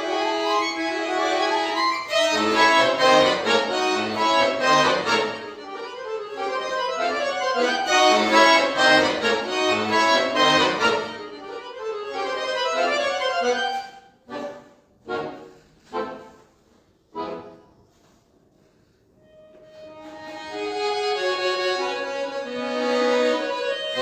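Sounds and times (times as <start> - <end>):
accordion playing classical piece: 0.0 - 24.0.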